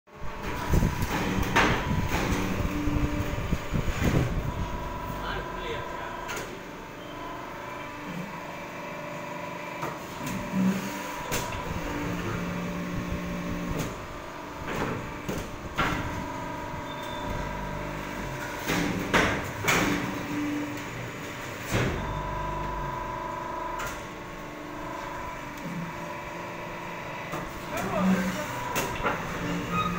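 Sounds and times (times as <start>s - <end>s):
machine hum: 0.1s - 29.9s.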